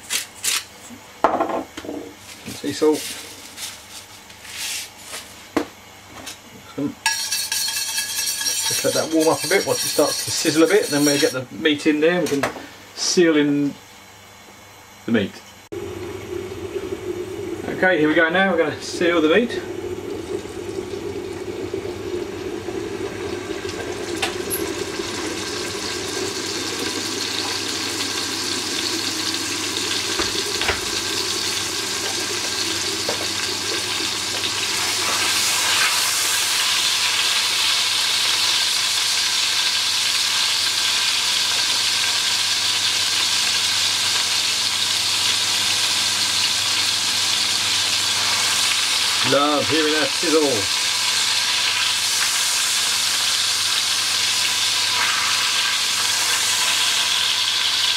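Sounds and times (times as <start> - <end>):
beef sizzling in hot oil: 7.0 - 11.4, 15.8 - 57.9.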